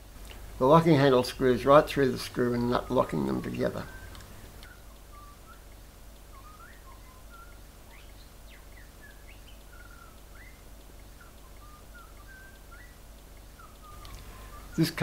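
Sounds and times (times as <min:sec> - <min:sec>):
low steady hum: 0:00.0 - 0:15.0
faint bird chirps: 0:01.0 - 0:15.0.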